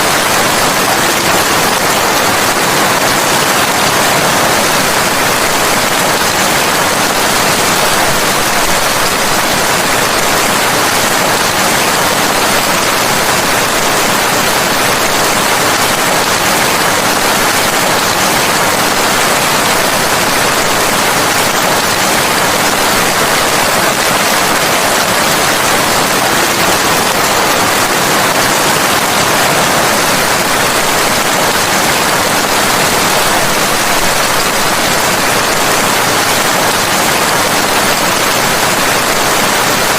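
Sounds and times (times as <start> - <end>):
steady dense rain: 0.0 - 39.9.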